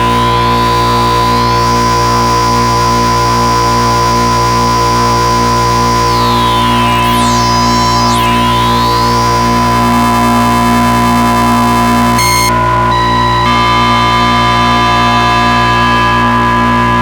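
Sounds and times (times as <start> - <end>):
synthesizer drone: 0.0 - 17.0.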